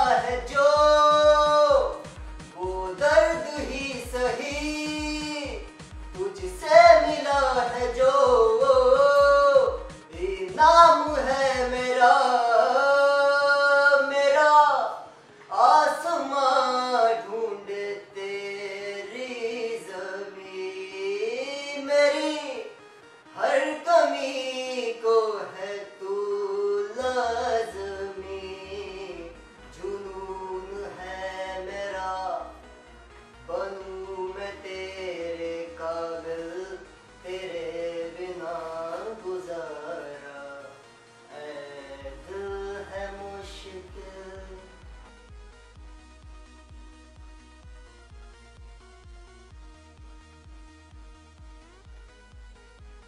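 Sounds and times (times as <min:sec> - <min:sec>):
man singing solo: 0:00.0 - 0:22.8, 0:23.4 - 0:32.6, 0:33.5 - 0:44.8.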